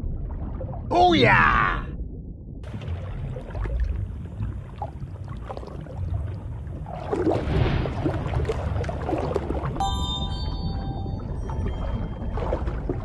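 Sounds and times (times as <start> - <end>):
bubbling and gurgling: 0.0 - 13.0
low underwater rumble: 1.9 - 13.0.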